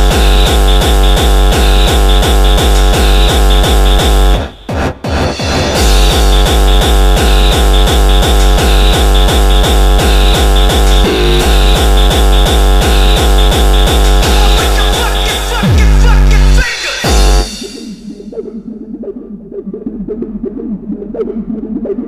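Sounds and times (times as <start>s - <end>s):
dense synthesizer layers: 0.0s - 22.0s
distorted kick drum: 0.0s - 22.0s.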